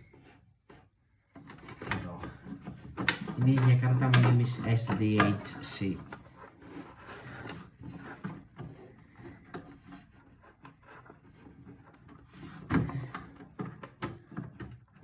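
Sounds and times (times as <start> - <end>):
scraping and rubbing: 0.0 - 15.0.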